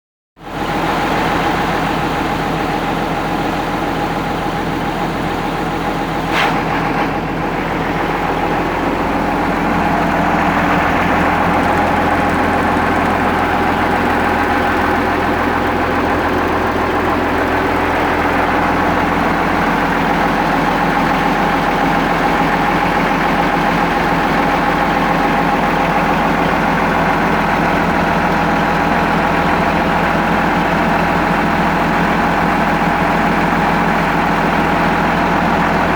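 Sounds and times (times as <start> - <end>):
bus diesel engine idling: 0.4 - 35.9.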